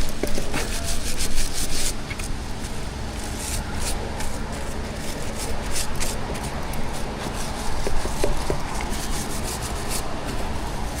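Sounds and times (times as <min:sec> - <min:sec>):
brush scrubbing wheel rim: 0:00.0 - 0:11.0
steady low hum: 0:00.0 - 0:11.0.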